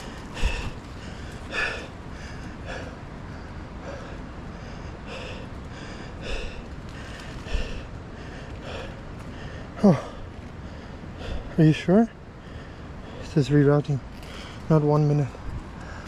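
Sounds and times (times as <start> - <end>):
man breathing hard: 0.0 - 13.5, 14.1 - 14.8, 15.4 - 16.0.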